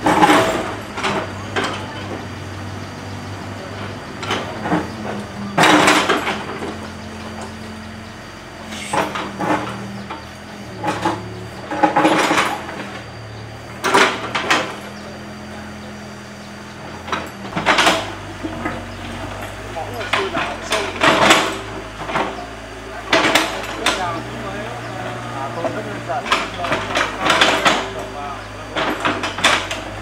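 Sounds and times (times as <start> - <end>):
mini excavator running: 0.0 - 30.0.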